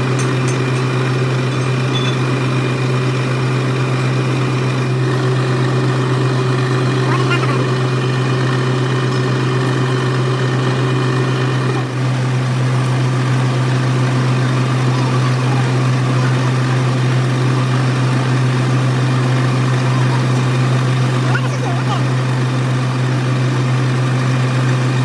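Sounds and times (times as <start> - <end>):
workshop machine humming: 0.0 - 25.0.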